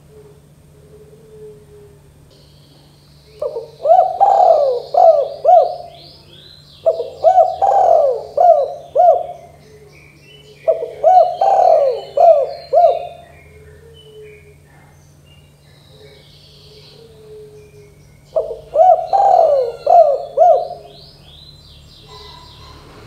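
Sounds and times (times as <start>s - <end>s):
dove cooing: 0.0s - 2.3s, 3.4s - 14.9s, 15.5s - 23.0s
small birds chirping faintly: 0.0s - 23.0s.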